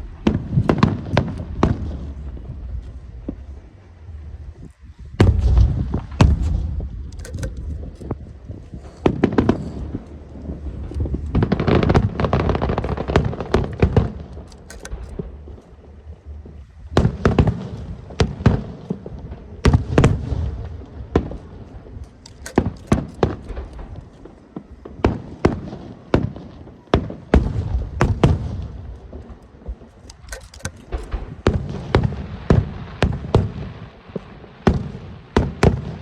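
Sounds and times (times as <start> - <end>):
dense crackling of fireworks: 0.0 - 4.5, 5.1 - 7.1, 8.2 - 14.5, 15.1 - 22.2, 22.9 - 29.9, 31.1 - 36.0
fireworks bursting: 5.2 - 36.0.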